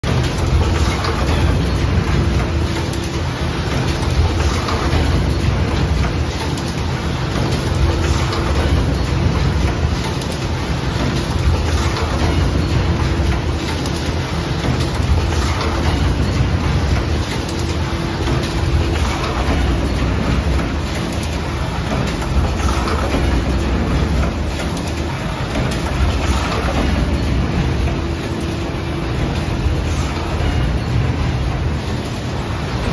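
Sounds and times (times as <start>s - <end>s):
wrapping machine humming and clattering: 0.0s - 32.9s.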